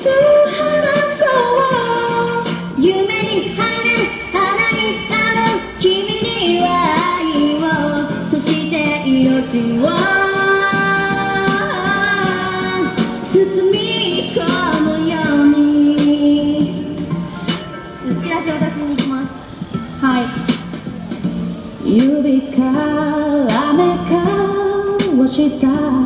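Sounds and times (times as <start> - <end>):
woman singing into microphone: 0.0 - 17.1, 21.8 - 26.0
recorded backing track: 0.0 - 26.0.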